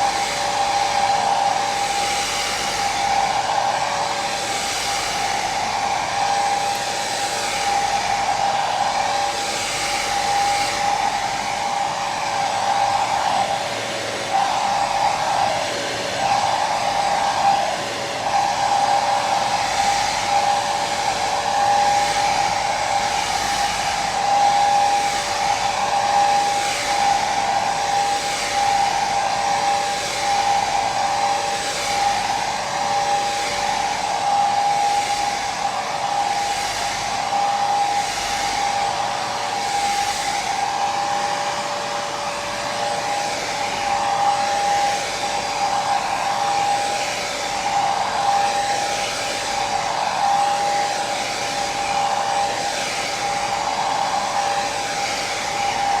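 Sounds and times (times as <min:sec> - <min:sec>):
electric hair dryer running: 0:00.0 - 0:56.0.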